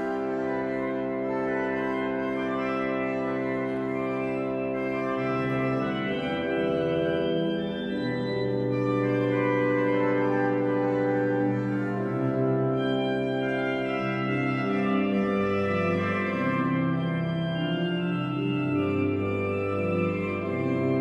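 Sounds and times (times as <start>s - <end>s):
pipe organ chords: 0.0s - 21.0s.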